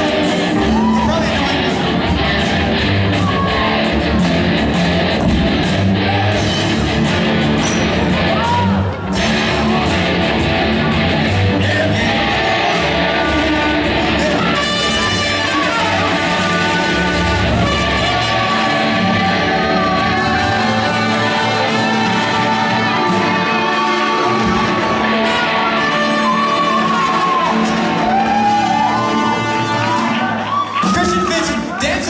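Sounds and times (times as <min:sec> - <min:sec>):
live rock band playing: 0:00.0 - 0:31.7.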